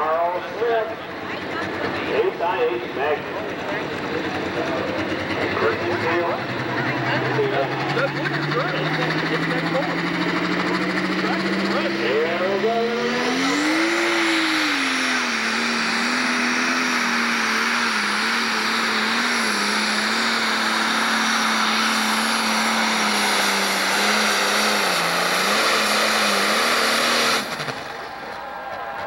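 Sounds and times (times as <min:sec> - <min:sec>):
diesel tractor engine at full throttle: 0:00.0 - 0:29.0.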